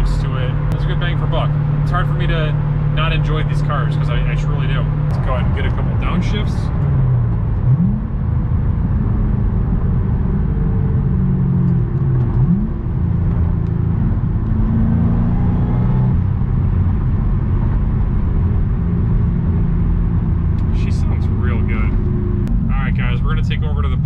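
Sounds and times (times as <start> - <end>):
car engine downshifting: 0.0 - 24.0.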